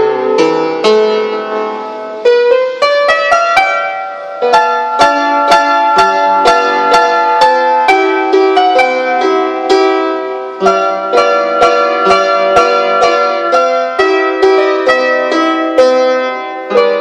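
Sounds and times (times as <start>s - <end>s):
instrumental music with ringing chords: 0.0s - 17.0s.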